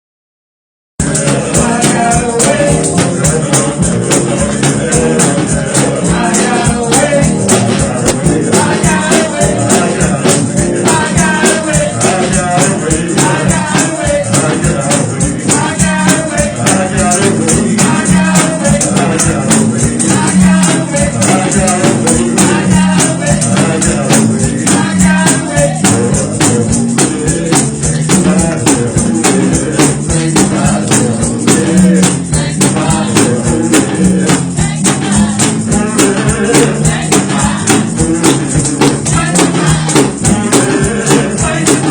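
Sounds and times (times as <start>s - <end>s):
gospel singing: 1.0s - 41.9s
tambourine beat: 1.0s - 41.9s.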